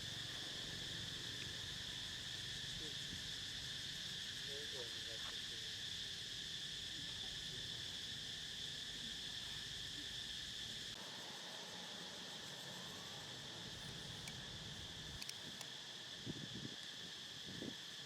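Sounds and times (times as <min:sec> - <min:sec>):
insect chorus droning: 0:00.0 - 0:18.0.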